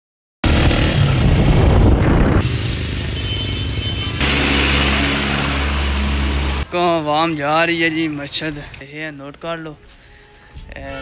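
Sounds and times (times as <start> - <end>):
road traffic: 0.4 - 10.6.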